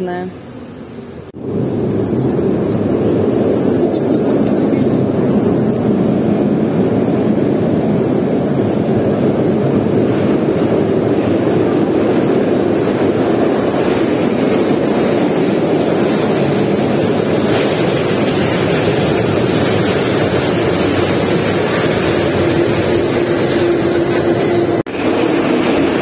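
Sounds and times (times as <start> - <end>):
tram rumbling in tunnel: 0.0 - 26.0.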